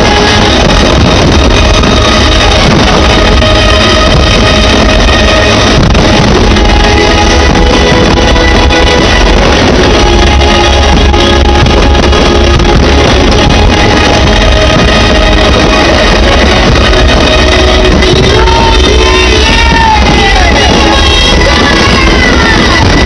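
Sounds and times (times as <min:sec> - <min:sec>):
loud music: 0:00.0 - 0:23.0.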